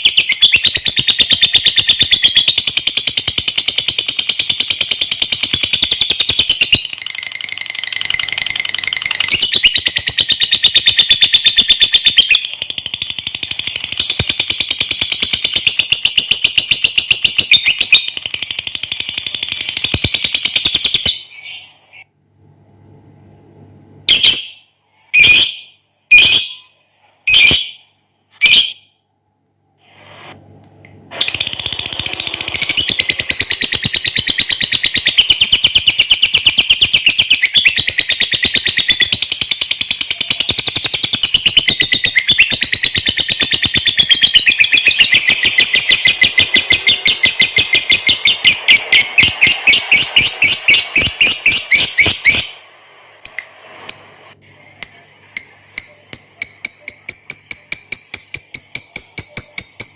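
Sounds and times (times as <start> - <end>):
lovebird chattering trill: 0.0 - 21.7, 31.2 - 52.6, 53.2 - 59.9.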